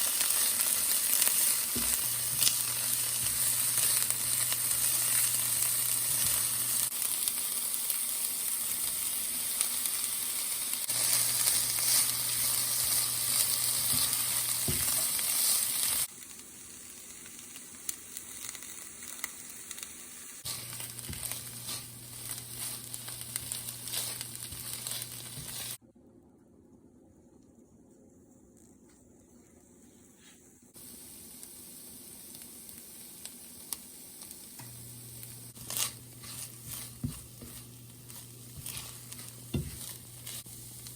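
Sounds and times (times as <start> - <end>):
food sizzling in hot oil: 0.0 - 25.8, 30.8 - 40.9.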